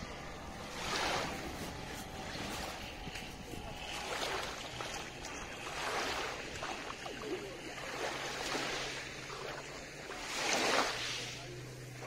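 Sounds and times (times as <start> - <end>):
waves lapping on pebble shore: 0.0 - 12.0.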